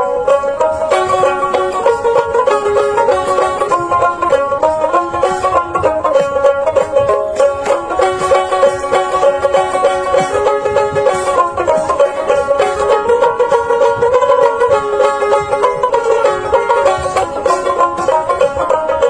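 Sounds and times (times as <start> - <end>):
plucked banjo-style tune: 0.0 - 19.0.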